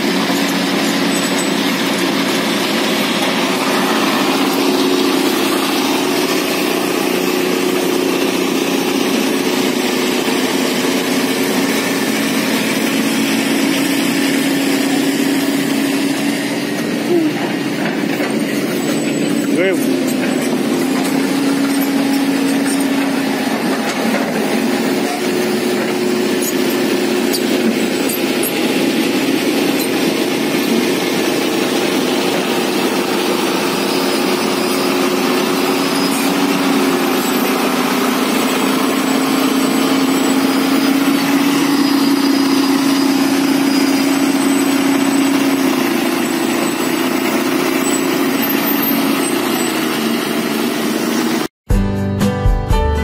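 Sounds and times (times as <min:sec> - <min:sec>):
excavator diesel engine running: 0:00.0 - 0:51.5.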